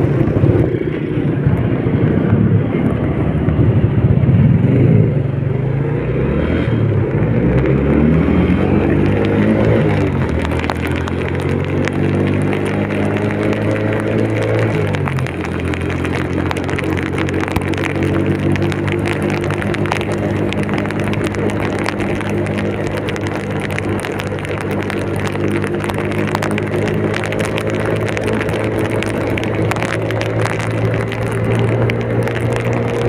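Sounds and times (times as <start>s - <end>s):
raindrops ticking: 5.5s - 33.0s
rain hiss: 6.4s - 33.0s.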